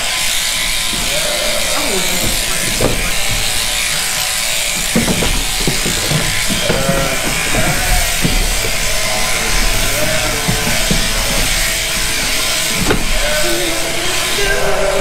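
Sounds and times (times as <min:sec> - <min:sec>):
electric shears running: 0:00.0 - 0:15.0.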